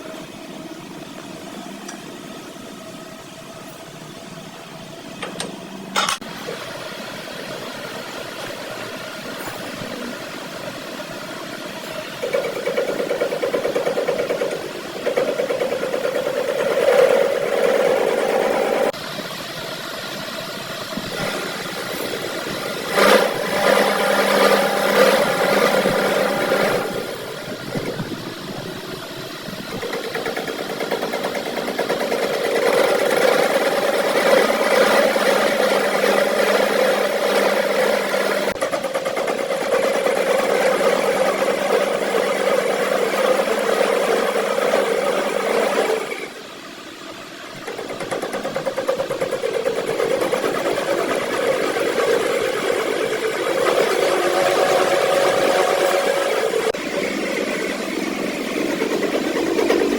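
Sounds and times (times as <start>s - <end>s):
machine motor humming: 0.0s - 59.9s.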